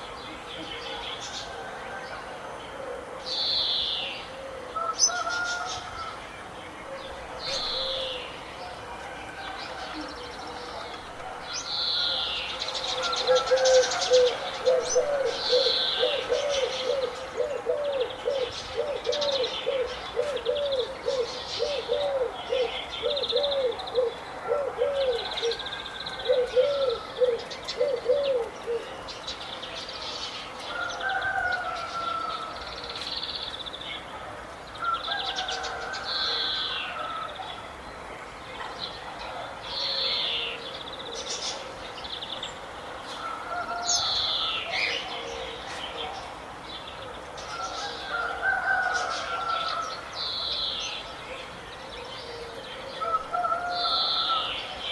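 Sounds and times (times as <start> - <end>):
birds chirping and singing: 0.0 - 34.1, 38.4 - 54.9.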